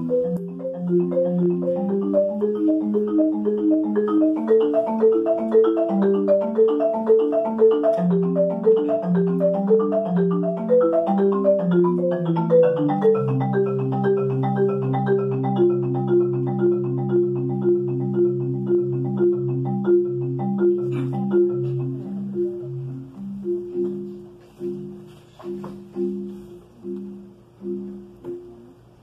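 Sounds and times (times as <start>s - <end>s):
marimba played with mallets: 0.0s - 29.0s.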